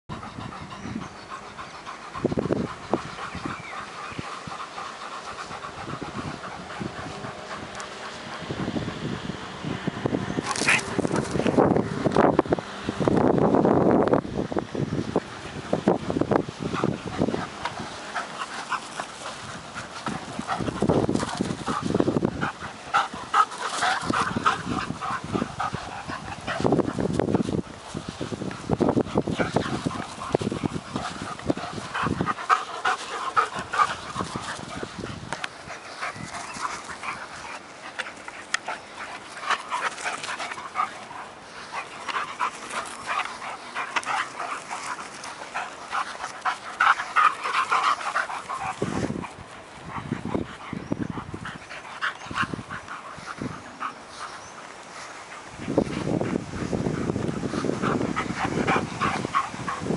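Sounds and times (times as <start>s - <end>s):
dogs panting: 0.0s - 59.9s.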